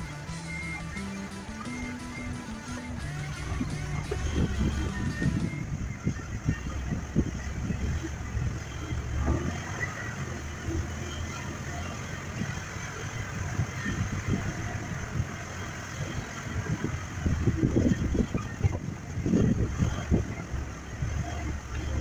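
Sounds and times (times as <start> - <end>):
truck engine at low speed: 0.0 - 22.0.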